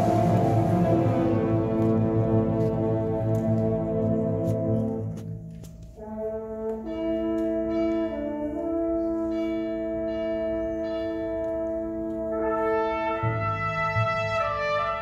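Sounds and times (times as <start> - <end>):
concert band sustained chords: 0.0 - 15.0.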